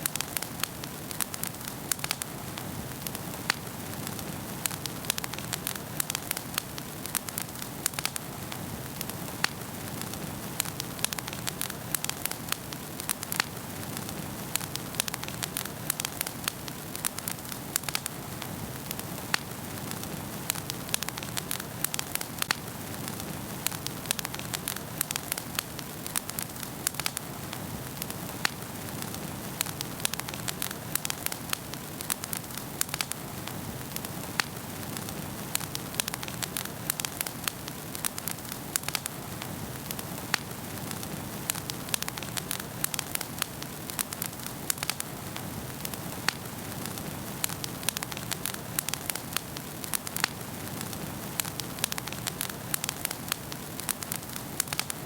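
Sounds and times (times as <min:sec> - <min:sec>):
soft hiss of flames: 0:00.0 - 0:55.0
wood fire crackling and popping: 0:00.0 - 0:55.0.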